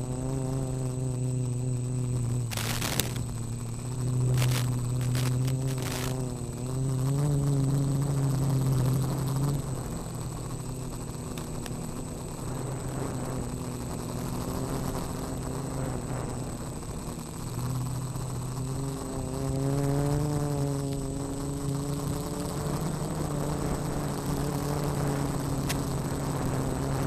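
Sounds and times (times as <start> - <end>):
quadcopter motors humming: 0.0 - 27.0.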